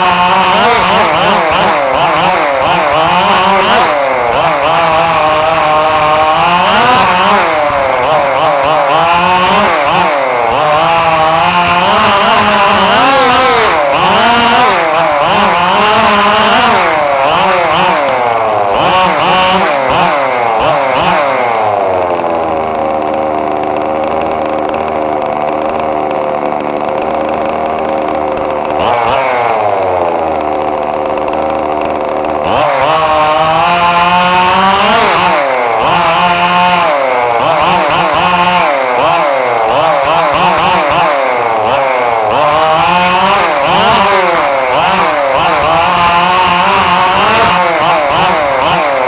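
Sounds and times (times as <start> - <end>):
rc car engine revving: 0.0 - 49.0.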